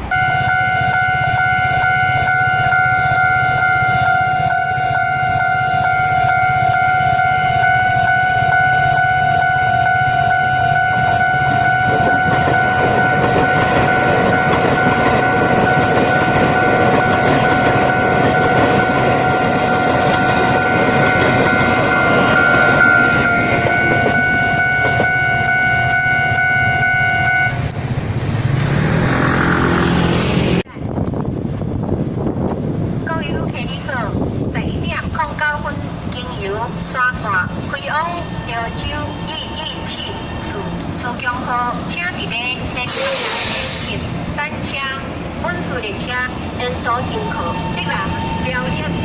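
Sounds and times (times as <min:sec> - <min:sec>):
level crossing warning tone: 0:00.0 - 0:27.8, 0:33.1 - 0:49.0
train wheels rumbling and clacking: 0:00.8 - 0:49.0.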